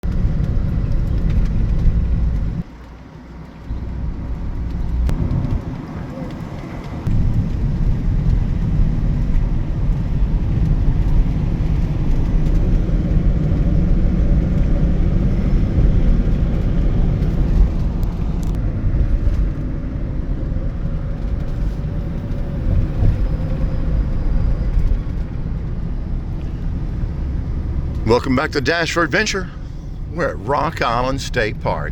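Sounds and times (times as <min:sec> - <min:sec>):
car interior road and engine rumble: 0:00.0 - 0:31.9.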